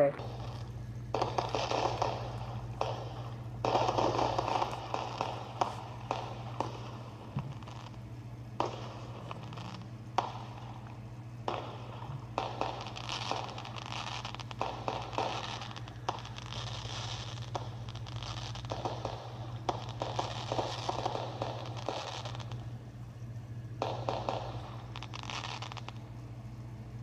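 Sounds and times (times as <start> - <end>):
firework pops: 0.0 - 26.8
fireworks crackling: 0.0 - 27.0
low hum: 0.0 - 27.0.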